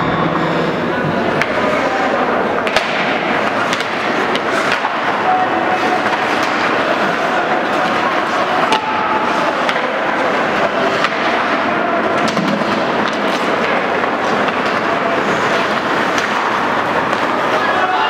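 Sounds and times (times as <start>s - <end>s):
hockey sticks and puck clacking: 0.4s - 18.0s.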